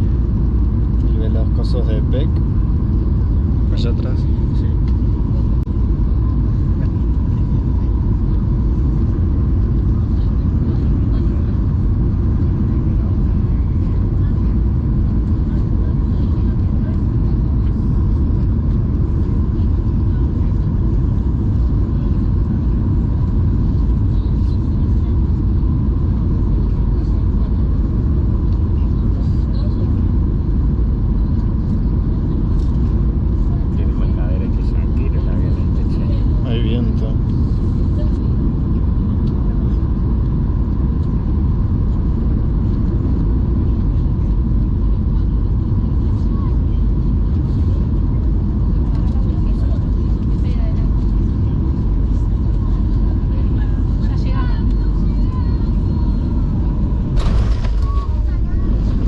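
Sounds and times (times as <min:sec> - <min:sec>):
engine and airflow rumble: 0:00.0 - 0:59.0
faint steady whine: 0:00.0 - 0:59.0.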